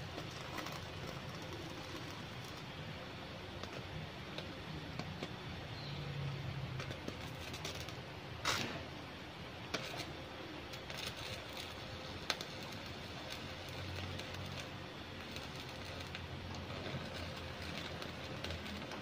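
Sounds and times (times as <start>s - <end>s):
arc welding clicks and crackles: 0.0s - 5.6s, 6.3s - 19.0s.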